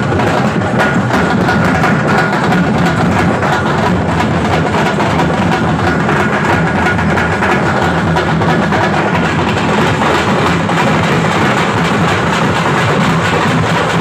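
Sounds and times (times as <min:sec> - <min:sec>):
drum troupe playing fast rhythm: 0:00.0 - 0:14.0.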